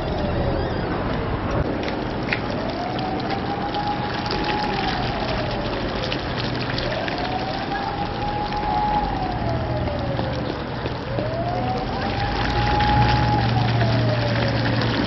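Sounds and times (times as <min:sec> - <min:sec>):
siren wailing: 0:00.0 - 0:15.0
water rushing along a gutter: 0:00.0 - 0:15.0.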